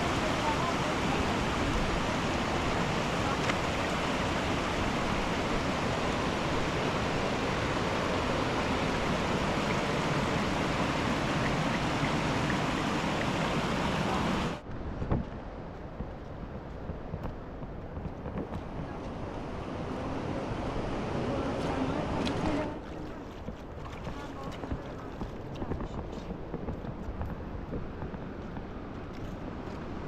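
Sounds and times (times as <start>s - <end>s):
rushing river water: 0.0s - 14.6s, 18.6s - 30.0s.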